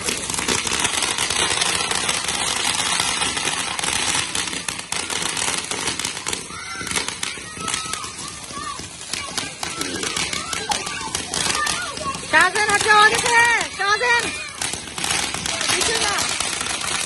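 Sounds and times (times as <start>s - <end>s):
fireworks crackling hiss and pops: 0.0s - 17.0s
voices calling out: 0.0s - 17.0s.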